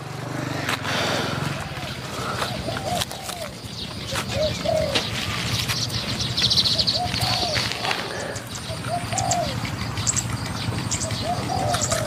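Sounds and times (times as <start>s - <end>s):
doves cooing: 0.4s - 12.0s.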